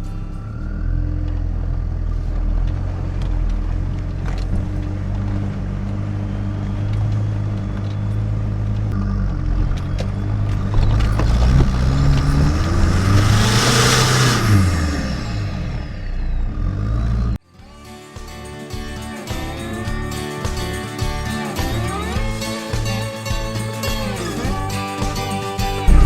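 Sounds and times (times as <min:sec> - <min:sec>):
diesel engine revving: 0:00.0 - 0:17.4, 0:20.6 - 0:24.8.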